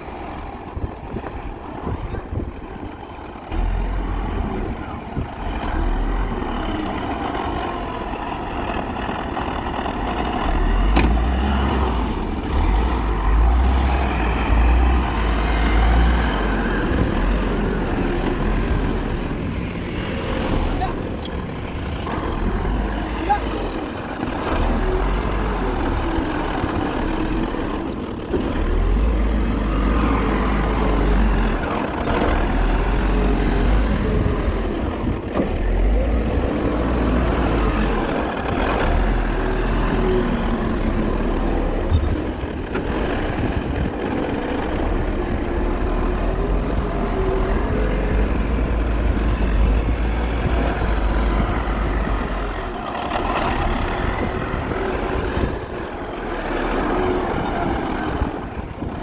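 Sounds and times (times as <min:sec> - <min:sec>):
wheel loader diesel engine running: 0:00.0 - 0:59.0.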